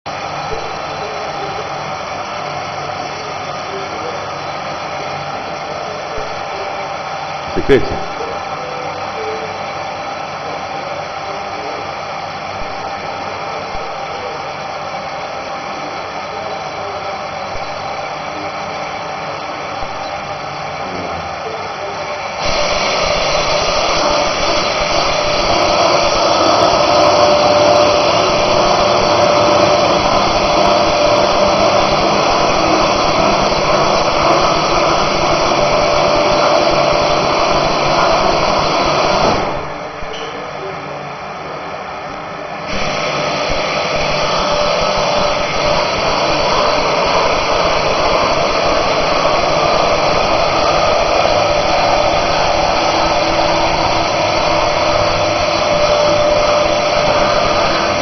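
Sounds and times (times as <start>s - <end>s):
sawmill machinery running: 0.0s - 58.0s
steady hum: 0.1s - 58.0s.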